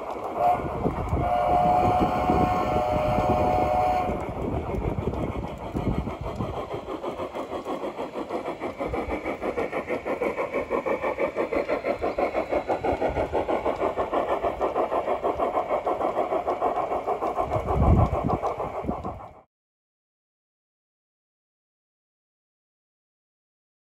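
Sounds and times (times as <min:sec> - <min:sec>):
model steam locomotive chuffing: 0:00.0 - 0:19.5.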